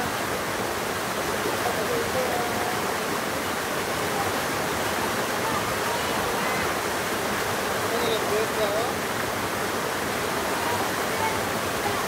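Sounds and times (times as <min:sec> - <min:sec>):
waterfall splashing: 0:00.0 - 0:12.0.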